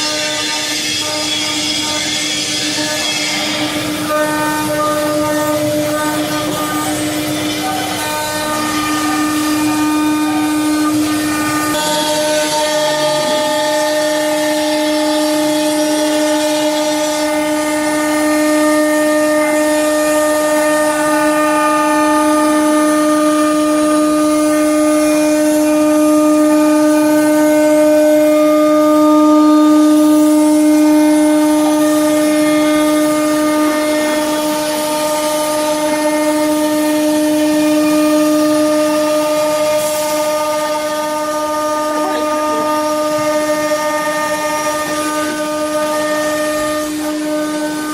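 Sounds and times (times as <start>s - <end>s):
hiss: 0.0s - 47.9s
router spindle whining: 0.0s - 47.9s.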